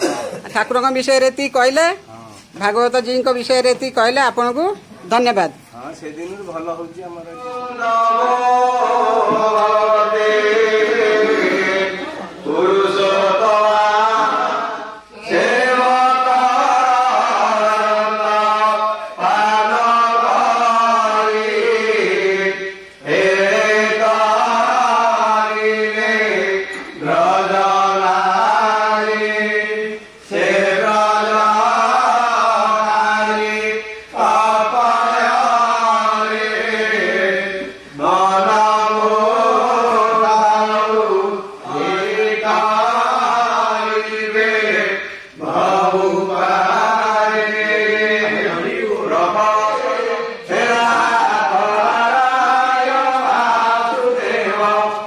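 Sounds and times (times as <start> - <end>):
man chanting into microphone: 5.9 - 55.0.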